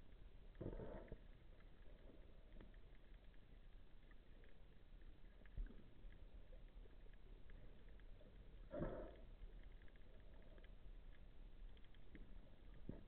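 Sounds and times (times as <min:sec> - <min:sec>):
faint underwater hiss: 0:00.0 - 0:13.0.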